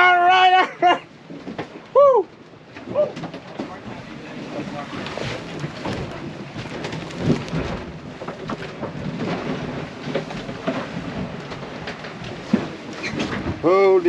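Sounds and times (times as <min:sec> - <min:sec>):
water rushing on hull: 0:00.0 - 0:14.0.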